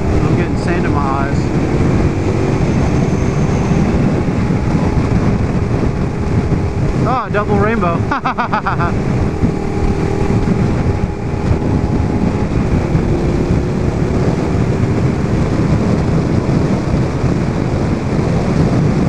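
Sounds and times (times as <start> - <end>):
motorcycle engine cruising: 0.0 - 19.0
wind rumble on microphone: 0.0 - 19.0.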